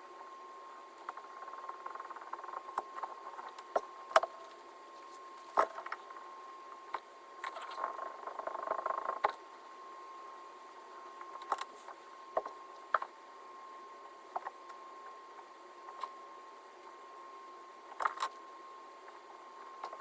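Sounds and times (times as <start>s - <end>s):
faint high-pitched hum: 0.0s - 20.0s.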